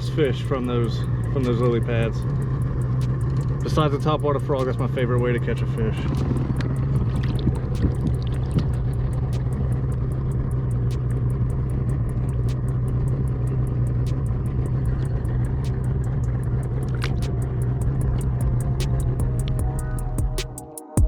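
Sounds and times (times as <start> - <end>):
fast regular ticking: 0.0 - 20.7
boat motor humming: 0.0 - 21.0.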